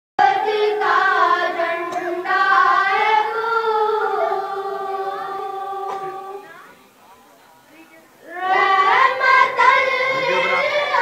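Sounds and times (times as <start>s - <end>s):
boy singing unaccompanied: 0.2s - 6.9s, 7.8s - 11.0s.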